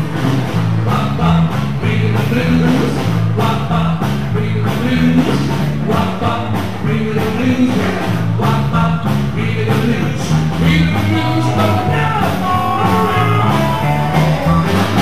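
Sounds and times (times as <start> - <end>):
rock and roll music: 0.0 - 15.0.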